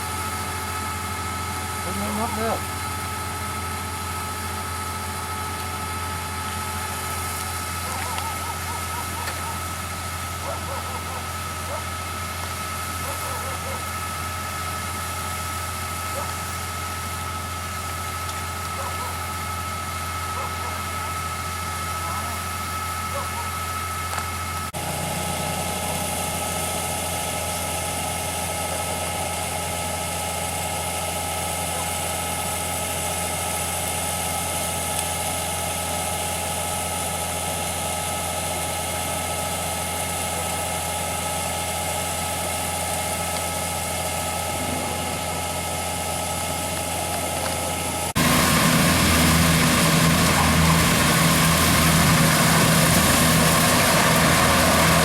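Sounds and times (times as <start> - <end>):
harvester engine and machinery running: 0.0 - 55.0.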